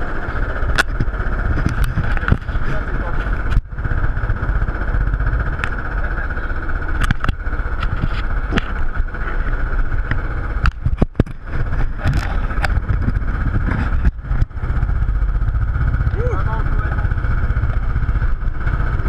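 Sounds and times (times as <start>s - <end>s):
mechanical whine: 0.0s - 19.0s
roller coaster low rumble: 0.0s - 19.0s.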